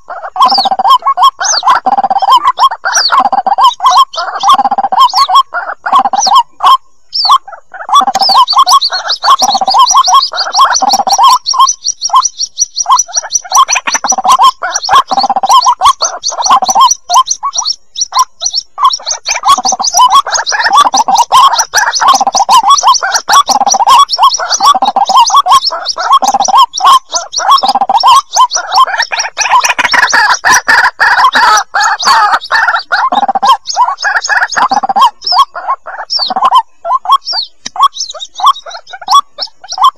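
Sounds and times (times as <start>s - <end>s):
chicks chirping rapidly: 0.0s - 39.9s.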